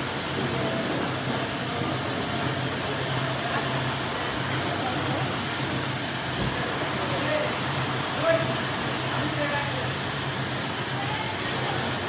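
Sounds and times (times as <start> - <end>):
hiss: 0.0 - 12.0.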